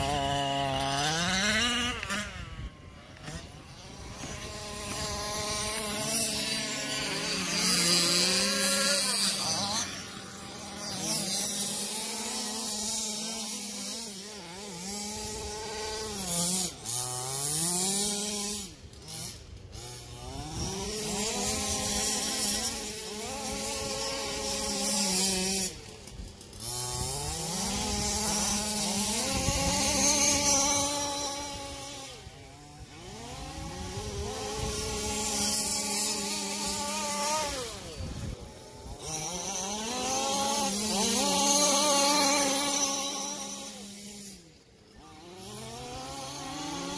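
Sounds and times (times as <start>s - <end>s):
small two-stroke engine revving: 0.0s - 46.9s.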